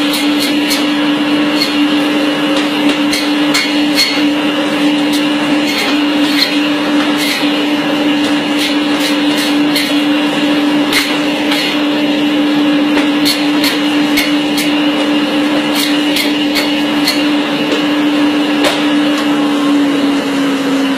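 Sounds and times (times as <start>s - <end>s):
band saw cutting meat: 0.0s - 20.9s.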